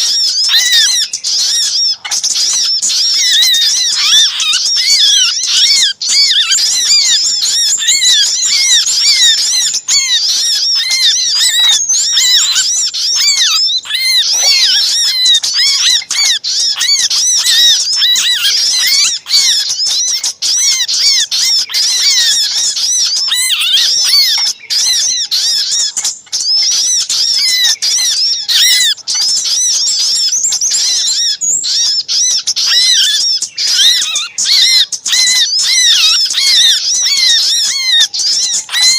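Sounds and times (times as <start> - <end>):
small birds chirping shrilly: 0.0 - 38.9.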